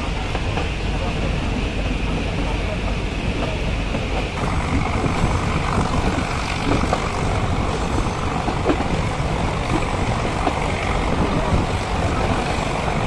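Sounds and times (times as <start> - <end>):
train carriage rumbling: 0.0 - 13.0.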